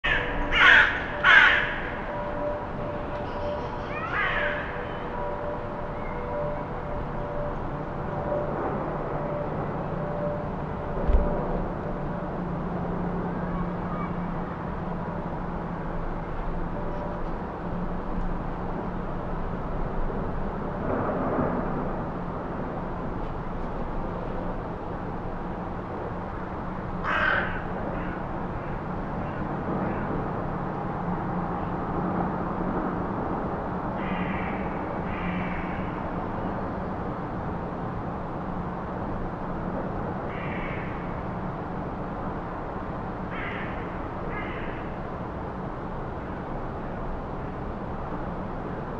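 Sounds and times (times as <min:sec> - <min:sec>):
distant town hum: 0:00.0 - 0:48.9.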